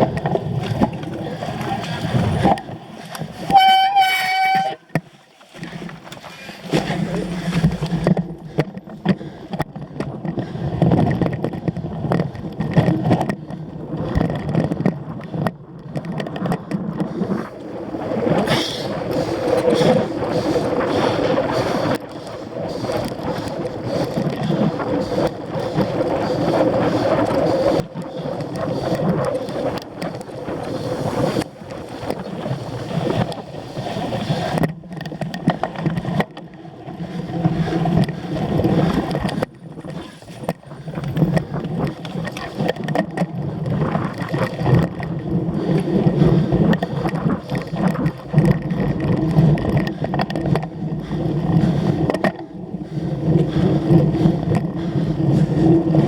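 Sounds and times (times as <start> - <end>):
bike clattering over rough ground: 0.0 - 52.5
wind noise on microphone: 0.0 - 56.0.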